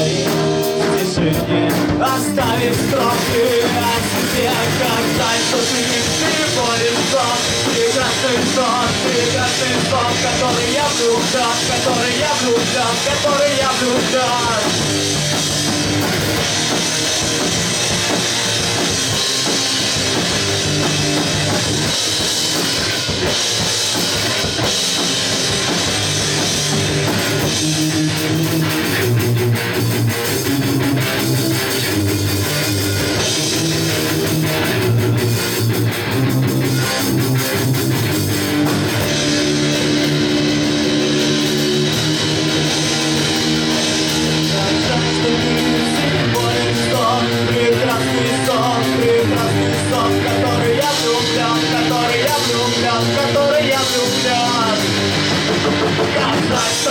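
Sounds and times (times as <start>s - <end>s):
heavy drumming: 0.0s - 56.9s
rock band playing live: 0.0s - 56.9s.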